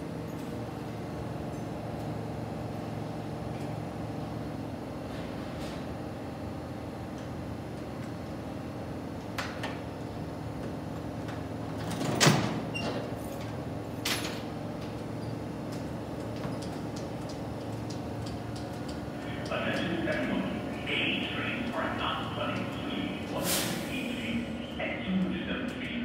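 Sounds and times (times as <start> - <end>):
subway car hum: 0.0 - 26.0.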